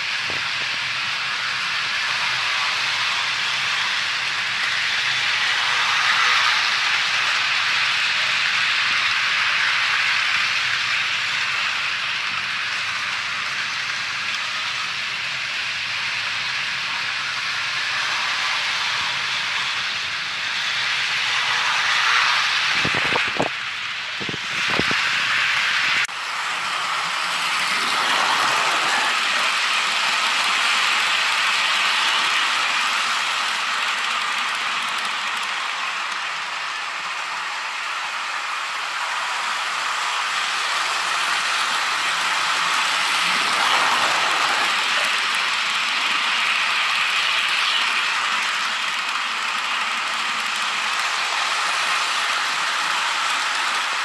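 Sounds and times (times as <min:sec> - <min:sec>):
model train wheels rattling: 0:00.0 - 0:54.0.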